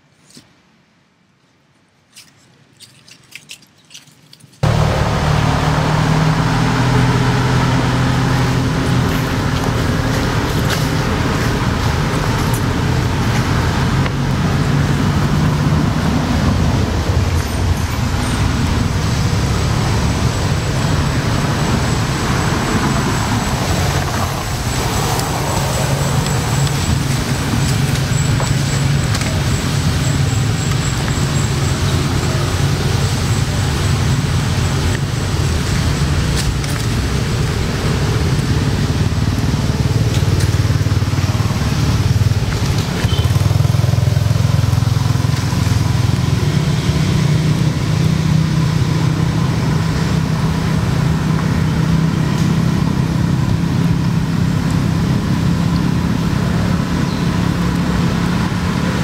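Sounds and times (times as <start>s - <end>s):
road traffic rumble: 1.6s - 59.0s.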